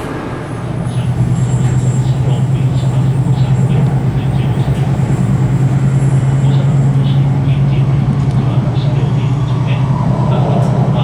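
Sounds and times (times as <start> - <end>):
constant low hum: 0.0 - 11.0
train wheels rumbling on rail: 0.0 - 11.0.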